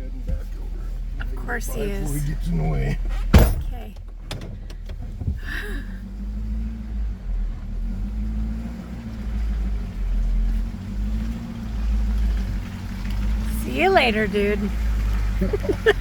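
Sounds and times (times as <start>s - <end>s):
tyres rumbling: 0.0s - 16.0s
vehicle engine hum: 0.0s - 16.0s.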